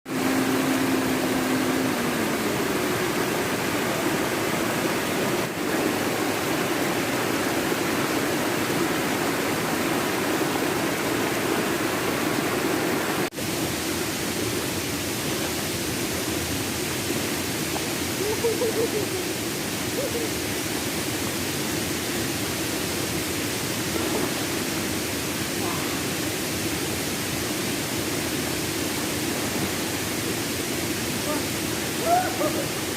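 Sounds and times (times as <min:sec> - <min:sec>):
river water and waterfalls rushing: 0:00.1 - 0:32.9.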